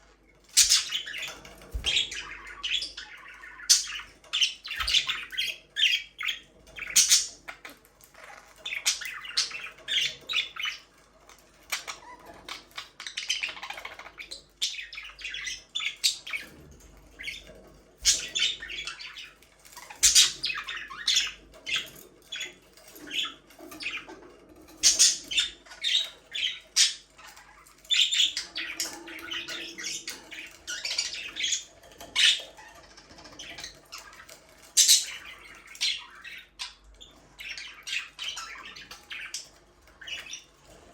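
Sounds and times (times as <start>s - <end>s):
budgerigars chirping and squawking: 0.4s - 40.9s.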